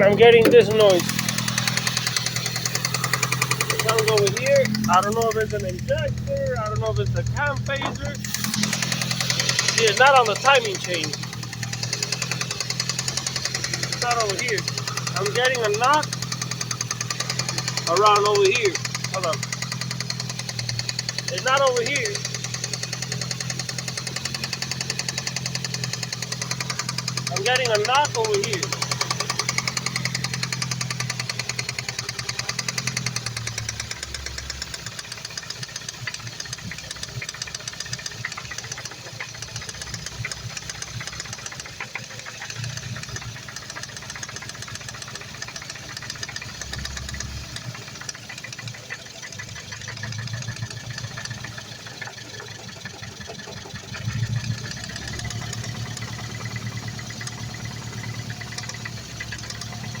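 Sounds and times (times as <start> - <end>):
car engine idling: 0.0 - 60.0
rapid engine ticking knock: 0.0 - 60.0.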